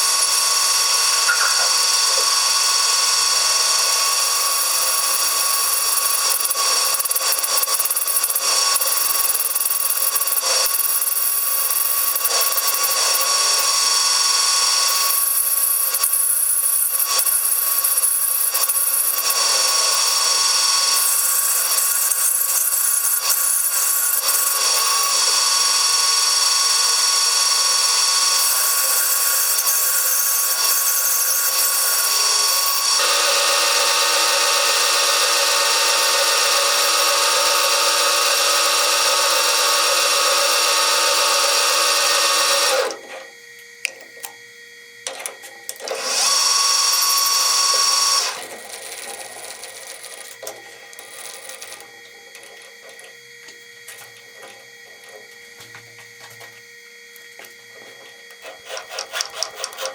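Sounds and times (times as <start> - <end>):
power tool whining: 0.0 - 59.9.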